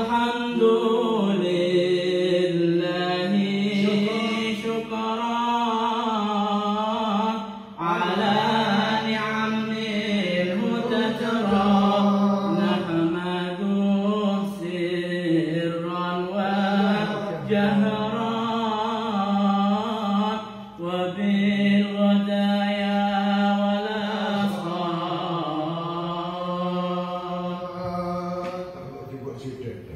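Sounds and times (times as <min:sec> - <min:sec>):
man chanting through loudspeaker: 0:00.0 - 0:29.9.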